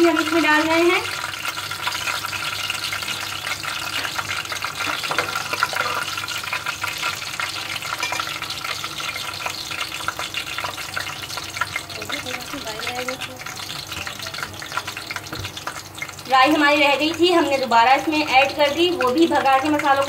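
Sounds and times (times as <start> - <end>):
hot oil sizzling and crackling: 0.0 - 20.0.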